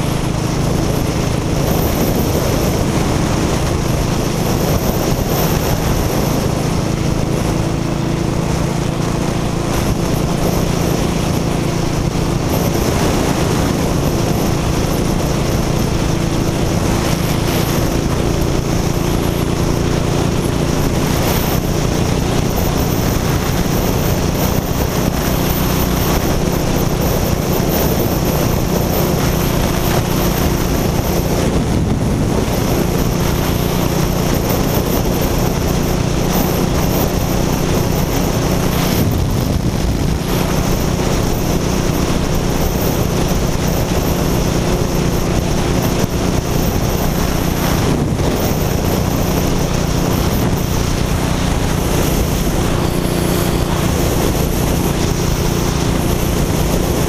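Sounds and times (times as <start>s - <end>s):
motorcycle engine at speed: 0.0s - 57.0s
wind rushing over microphone: 0.0s - 57.0s.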